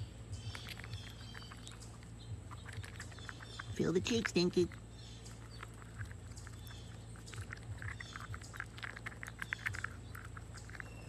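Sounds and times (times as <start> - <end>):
chipmunk gnawing on a nut: 0.0 - 11.0.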